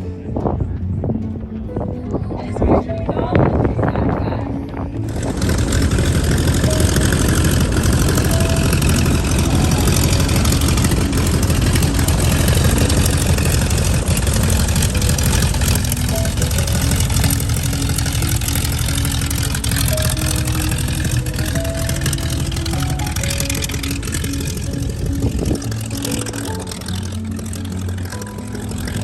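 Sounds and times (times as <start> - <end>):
aircraft engines droning: 0.0 - 29.0.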